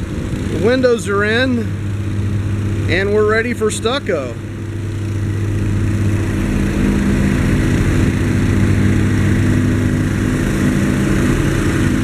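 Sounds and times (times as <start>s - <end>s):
construction machinery engine running: 0.0s - 12.0s.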